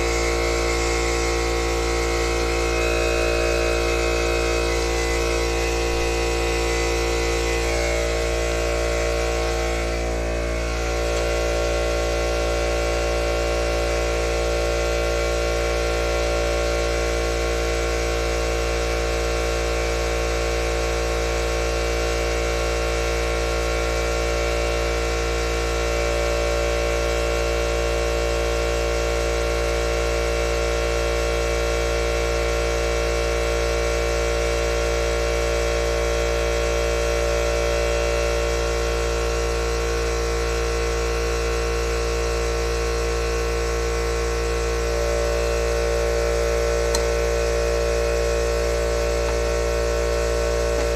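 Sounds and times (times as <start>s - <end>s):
air compressor running: 0.0s - 50.9s.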